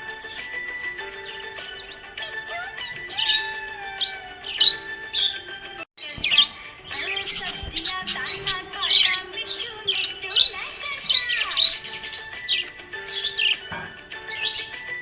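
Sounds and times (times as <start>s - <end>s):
background music with held tones: 0.0s - 15.0s
parrots chirping: 0.0s - 15.0s.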